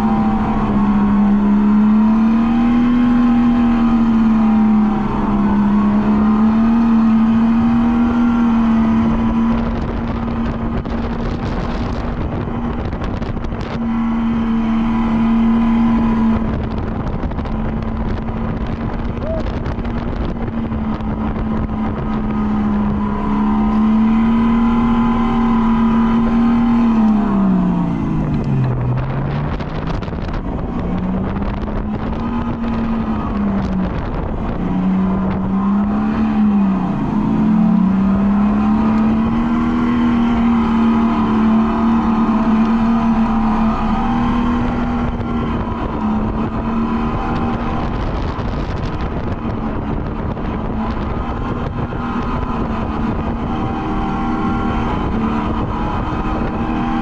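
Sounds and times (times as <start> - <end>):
electric go-kart motor whining: 0.0 - 19.0, 19.6 - 57.0.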